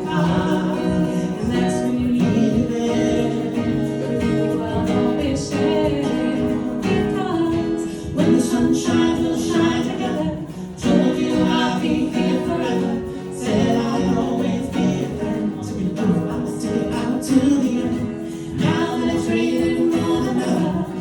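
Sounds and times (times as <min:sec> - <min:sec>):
choir singing in harmony: 0:00.0 - 0:21.0.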